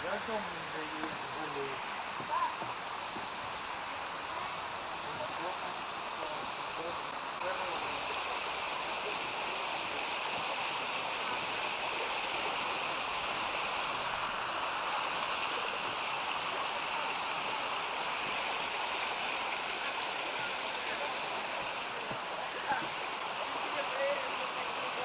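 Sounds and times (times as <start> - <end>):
creek water cascading over rapids: 0.0 - 25.0.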